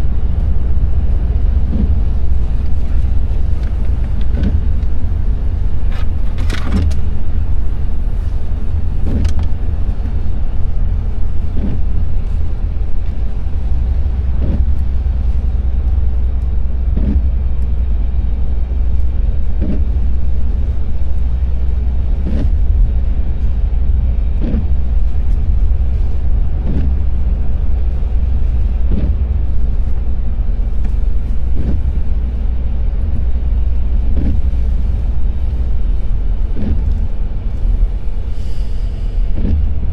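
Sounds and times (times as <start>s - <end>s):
road and engine rumble: 0.0s - 39.9s
windscreen wiper sweep: 0.0s - 39.9s.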